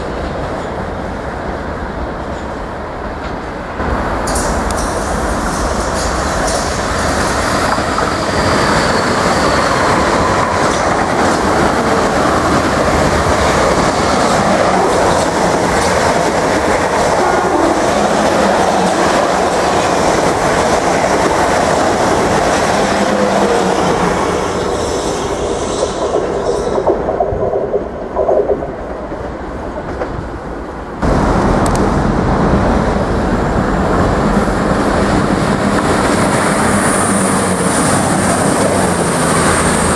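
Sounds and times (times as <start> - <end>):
diesel train engines approaching: 0.0 - 39.9
train rushing past: 0.0 - 39.9.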